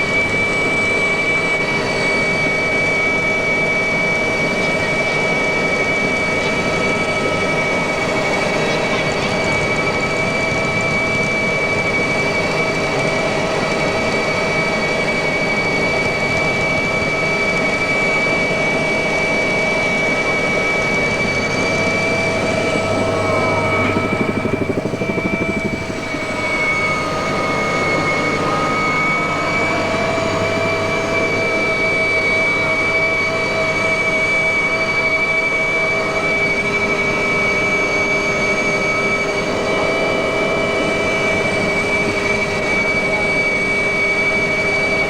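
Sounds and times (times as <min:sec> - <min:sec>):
helicopter engines whining: 0:00.0 - 0:45.0
helicopter rotor rumble: 0:00.0 - 0:45.0.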